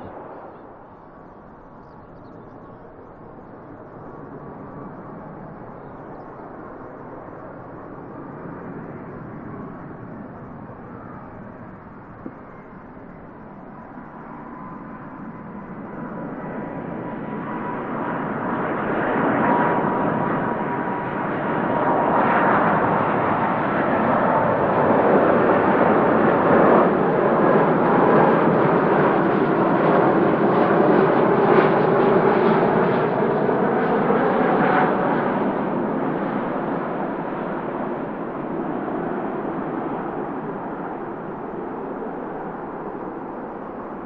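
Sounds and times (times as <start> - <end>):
faint engine whine: 0.0 - 44.0
jet engines roaring: 0.0 - 44.0.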